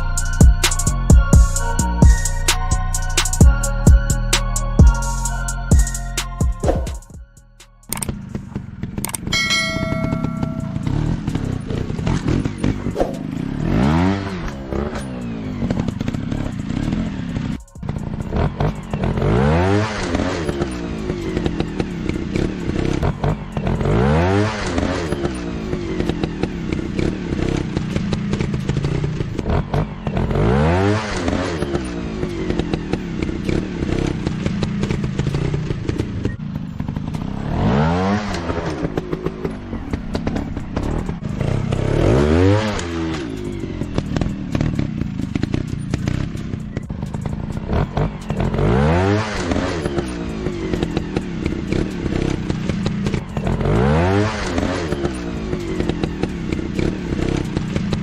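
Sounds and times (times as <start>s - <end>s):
motorcycle engines revving: 7.9s - 58.0s.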